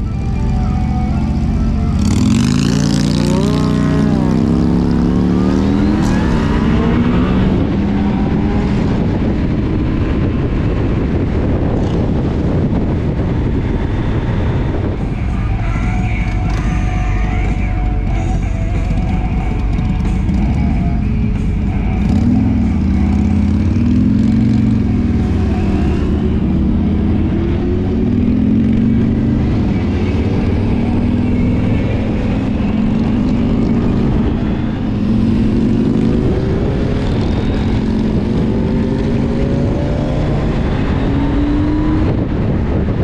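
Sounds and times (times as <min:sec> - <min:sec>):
motorcycle engine accelerating: 0:00.0 - 0:43.0
road noise: 0:00.0 - 0:43.0
wind noise: 0:04.0 - 0:43.0.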